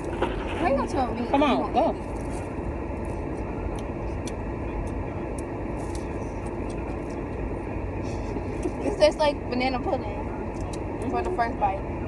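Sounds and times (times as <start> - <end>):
car cabin rumble and hiss: 0.0 - 12.0.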